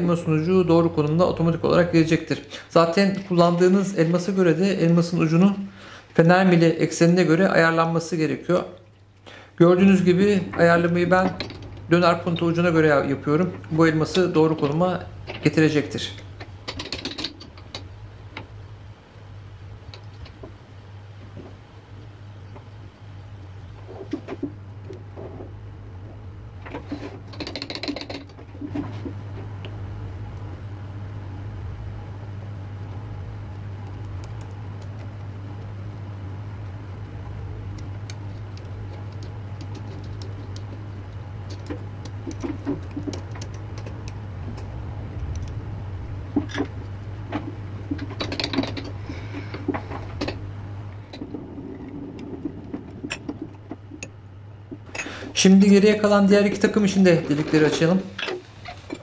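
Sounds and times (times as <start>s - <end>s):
electric motor humming: 9.6s - 59.0s.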